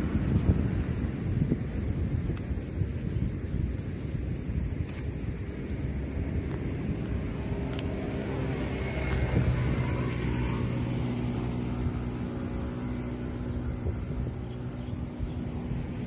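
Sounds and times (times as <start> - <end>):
low wind rumble: 0.0 - 16.0
vehicle engine hum: 0.0 - 16.0.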